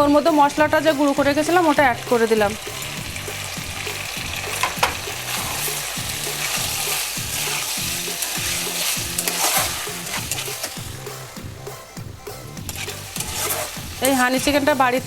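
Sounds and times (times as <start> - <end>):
background music: 0.0 - 15.0
chicken sizzling in a pan: 0.0 - 15.0
spoon stirring: 0.7 - 11.0, 12.6 - 15.0
utensil clicking against pan: 1.1 - 10.9, 12.6 - 15.0.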